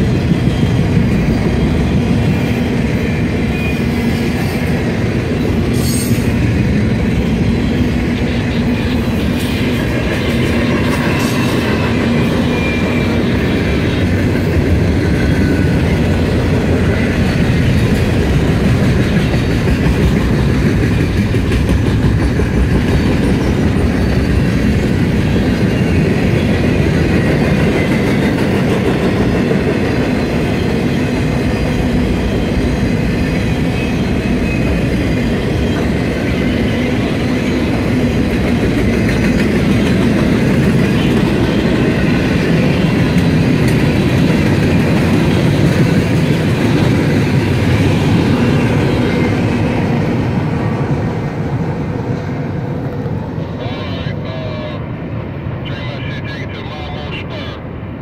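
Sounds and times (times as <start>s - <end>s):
train wheels rumbling on rails: 0.0s - 55.6s.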